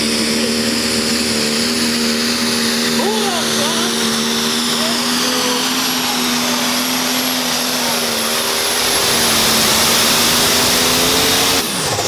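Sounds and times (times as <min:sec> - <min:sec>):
engine at full throttle: 0:00.0 - 0:12.0.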